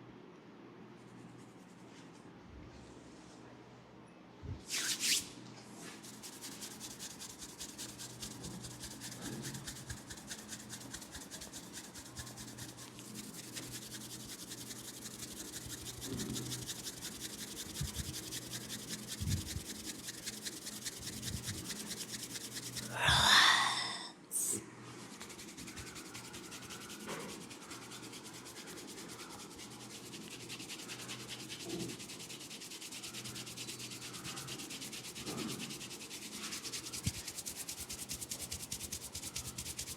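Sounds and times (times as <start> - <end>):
fingers rubbing through hair: 5.8 - 24.0, 24.9 - 39.9.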